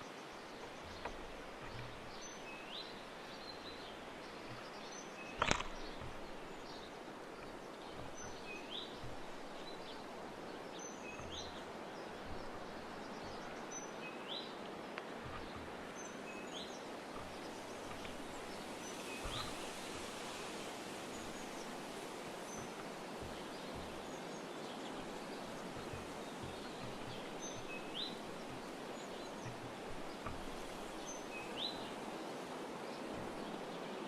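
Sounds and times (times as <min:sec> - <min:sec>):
outdoor hiss: 0:00.0 - 0:34.0.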